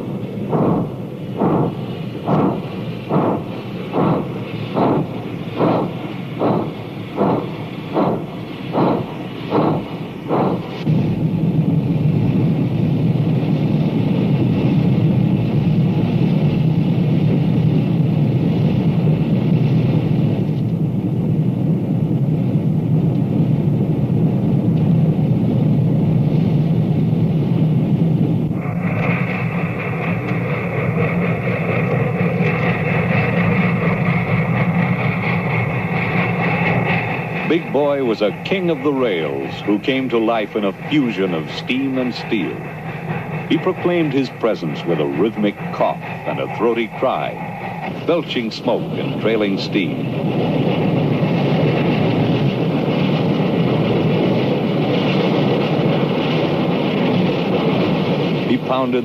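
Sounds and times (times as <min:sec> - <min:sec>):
heavy train rumble: 0:00.0 - 0:59.0
steam locomotive exhaust chuffs: 0:00.0 - 0:59.0.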